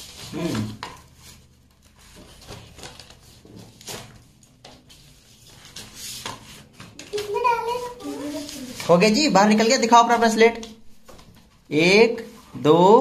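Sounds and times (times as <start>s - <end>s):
cardboard and paper packaging rustling: 0.0s - 12.6s.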